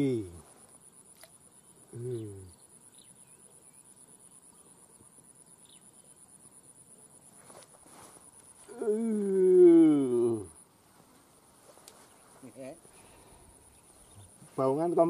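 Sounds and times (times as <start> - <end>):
faint chirps: 0.0 - 15.0
insects trilling: 0.0 - 15.0.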